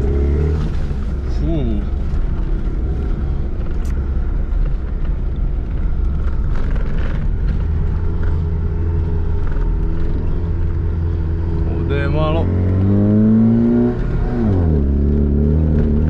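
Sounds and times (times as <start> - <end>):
car engine rumbling inside cabin: 0.0 - 16.0
car thumping and rattling: 0.0 - 16.0.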